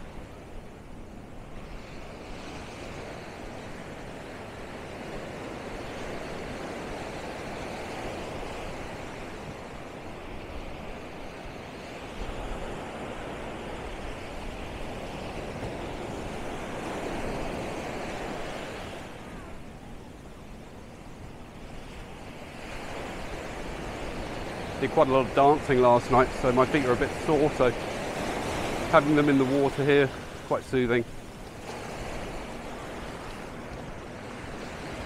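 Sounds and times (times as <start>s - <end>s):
surf breaking on beach: 1.4s - 35.0s.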